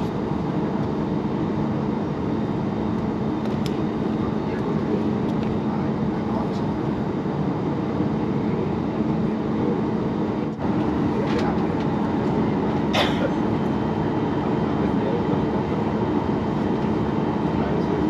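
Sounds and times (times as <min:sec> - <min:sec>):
airplane cabin engine hum: 0:00.0 - 0:18.0.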